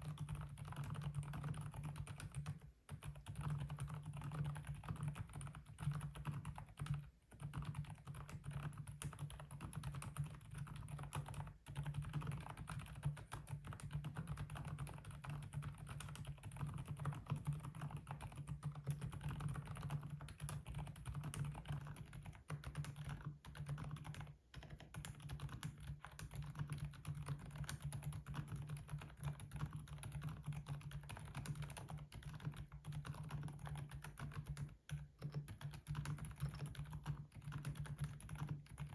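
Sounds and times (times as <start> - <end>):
muted keyboard typing: 0.0 - 38.9.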